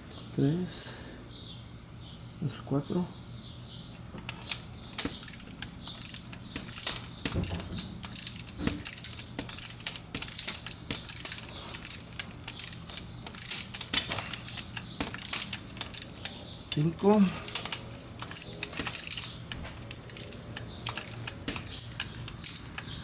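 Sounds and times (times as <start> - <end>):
torque wrench ratcheting: 4.2 - 23.0.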